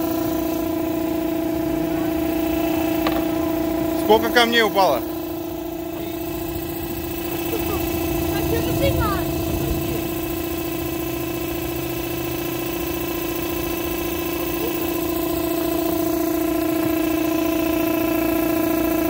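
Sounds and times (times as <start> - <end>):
air blower humming: 0.0 - 19.0.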